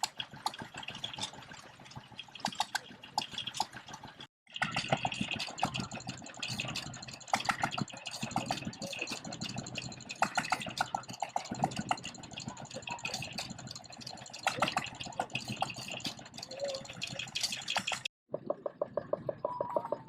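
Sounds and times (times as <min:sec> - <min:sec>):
voices: 0:00.0 - 0:18.1
stationary engine running: 0:00.0 - 0:19.4
engine with steady beat: 0:00.0 - 0:19.6.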